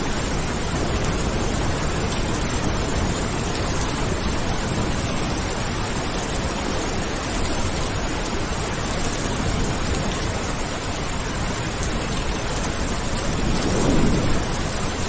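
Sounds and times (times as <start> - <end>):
steady heavy rain: 0.0 - 15.0.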